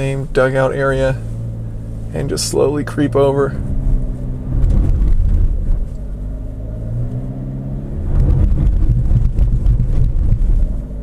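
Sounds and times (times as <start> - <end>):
car engine straining under load: 0.0 - 11.0.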